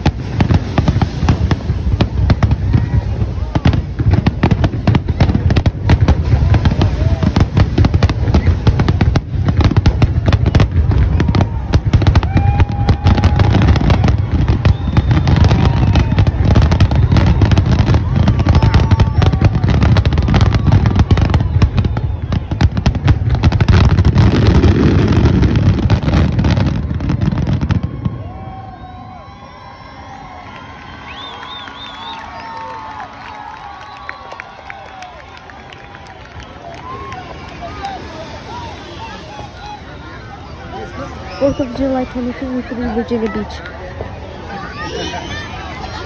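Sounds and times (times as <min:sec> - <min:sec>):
firework crackling: 0:00.0 - 0:46.0.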